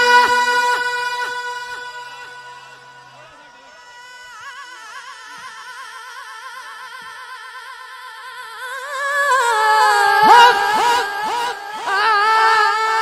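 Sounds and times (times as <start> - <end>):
young man singing with vibrato: 0.0 - 13.0.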